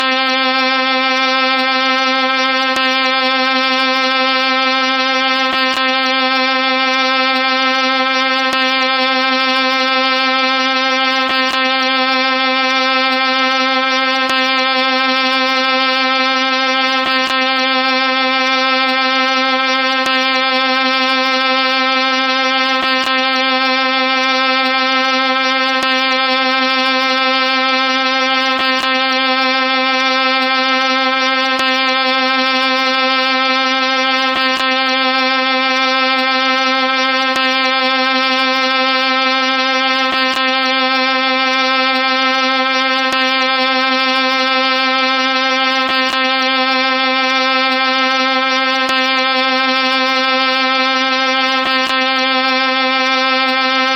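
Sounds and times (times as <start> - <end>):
held buzzy tone: 0.0 - 53.9.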